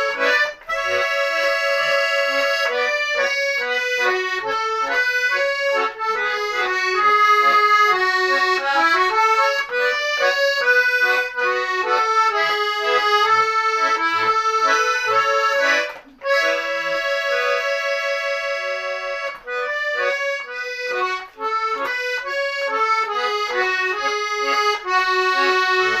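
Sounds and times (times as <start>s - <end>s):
button accordion melody: 0.0s - 26.0s.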